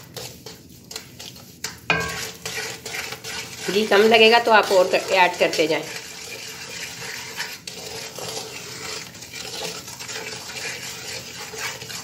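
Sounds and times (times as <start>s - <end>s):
wooden spatula scraping metal pan: 0.0s - 12.0s.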